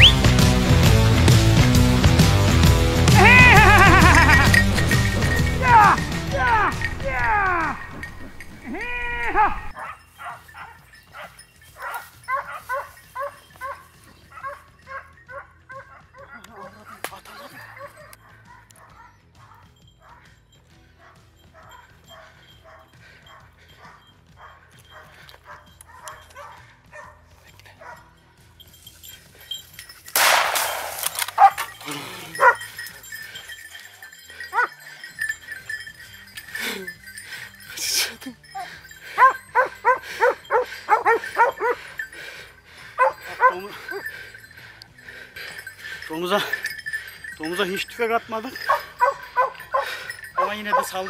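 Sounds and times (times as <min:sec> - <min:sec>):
hound barking: 0:03.1 - 0:20.3, 0:21.0 - 0:28.2, 0:30.2 - 0:37.7, 0:38.4 - 0:47.9, 0:48.5 - 0:51.0.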